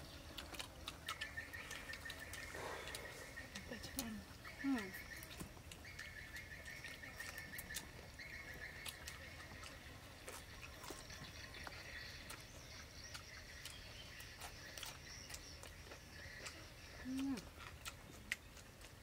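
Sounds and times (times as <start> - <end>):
people eating clicks and smacks: 0.0 - 19.0.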